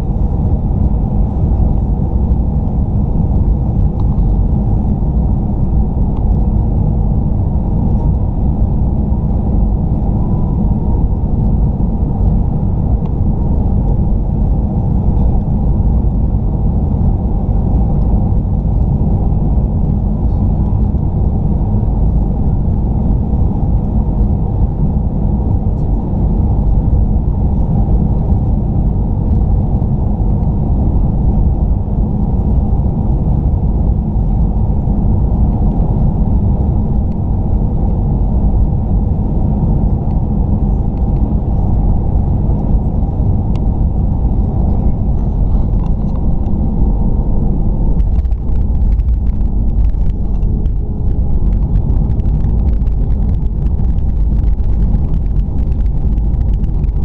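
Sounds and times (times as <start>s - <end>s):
jet engine and airflow rumble: 0.0s - 57.0s.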